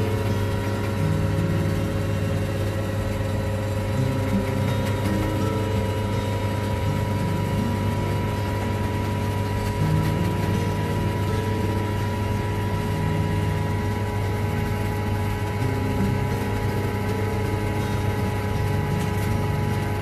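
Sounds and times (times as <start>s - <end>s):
vacuum pump motor humming: 0.0s - 20.0s.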